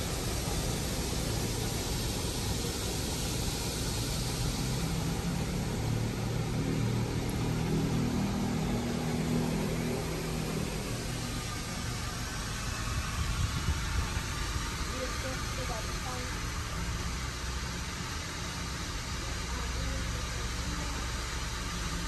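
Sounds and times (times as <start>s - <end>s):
low hum: 0.0s - 21.1s
water spray hissing on car: 0.0s - 22.0s.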